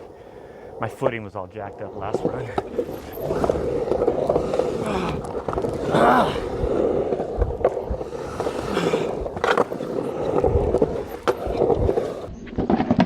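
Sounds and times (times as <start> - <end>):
skateboard wheels rolling: 0.0 - 13.0.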